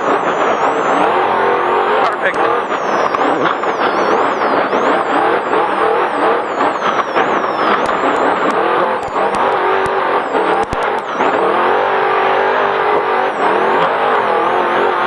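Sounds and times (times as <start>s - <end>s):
race truck engine revving: 0.0s - 15.0s.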